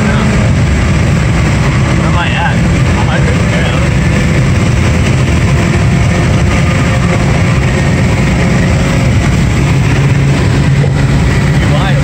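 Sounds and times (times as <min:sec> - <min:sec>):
loud exhaust drone: 0:00.0 - 0:12.0.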